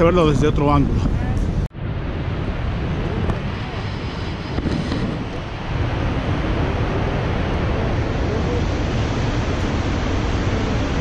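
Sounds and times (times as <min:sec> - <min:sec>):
waterfall roaring: 0:01.8 - 0:11.0.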